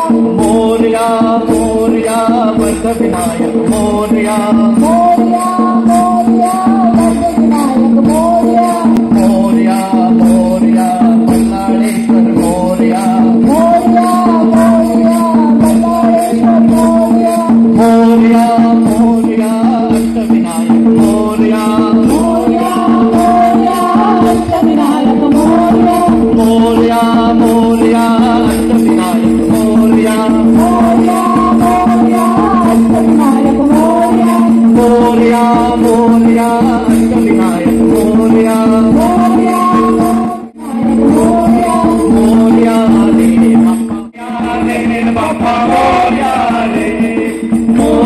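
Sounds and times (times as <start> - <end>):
drum beat: 0.0 - 48.0
group devotional singing: 0.0 - 48.0
jingling percussion: 0.0 - 48.0.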